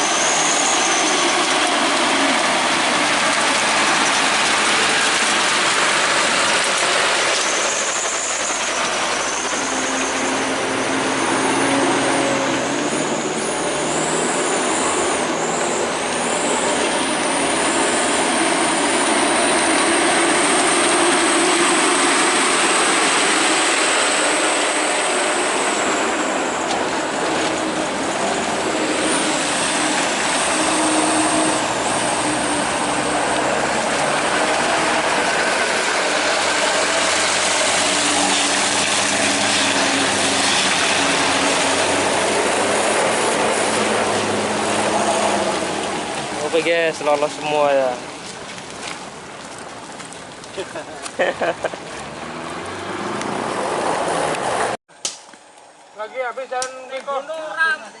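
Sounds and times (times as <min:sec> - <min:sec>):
heavy truck engine under load: 0:00.0 - 0:55.8.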